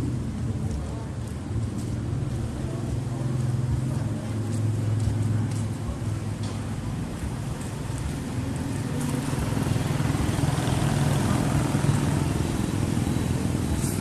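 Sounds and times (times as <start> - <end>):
e-bike riding rumble: 0.0 - 14.0.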